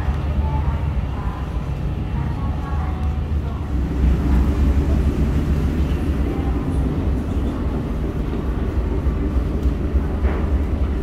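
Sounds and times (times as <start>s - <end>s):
ferry engines rumbling: 0.0s - 11.0s.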